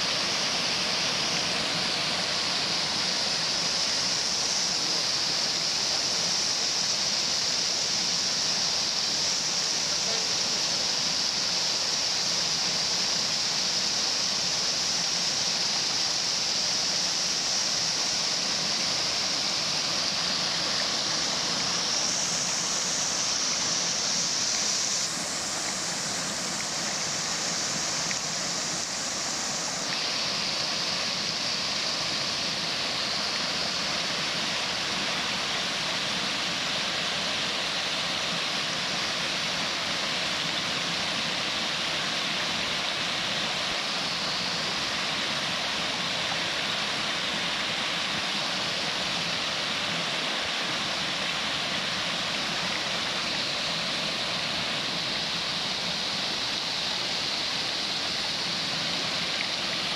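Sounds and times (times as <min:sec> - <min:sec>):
stream cascading over rocks: 0:00.0 - 0:59.9.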